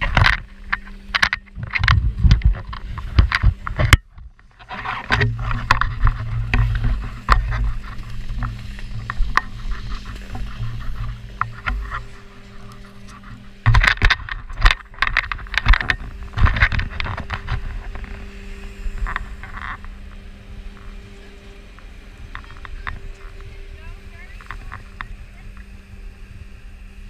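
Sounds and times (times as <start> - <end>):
sharp knocks and scrapes: 0.0 - 25.2
snowboard sliding over snow: 2.0 - 27.0.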